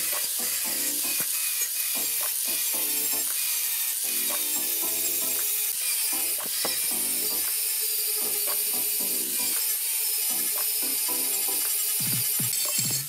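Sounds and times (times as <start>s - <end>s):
angle grinder grinding metal: 0.0s - 13.0s.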